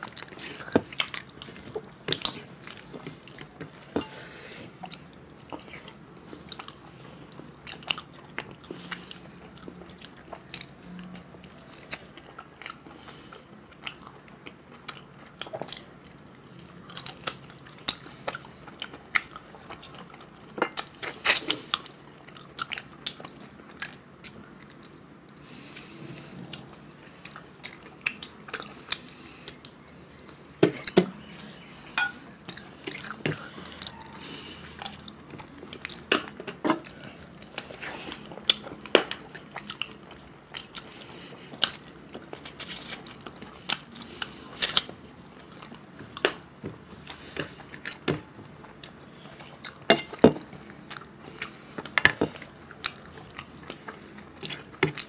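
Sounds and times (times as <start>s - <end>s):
people chewing: 0.0s - 55.0s.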